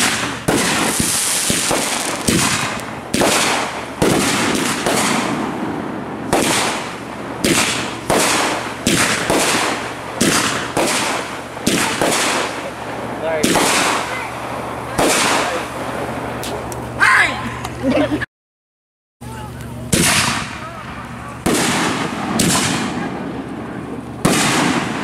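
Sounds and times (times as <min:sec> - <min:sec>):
fireworks bangs with hiss: 0:00.0 - 0:17.0, 0:19.8 - 0:25.0.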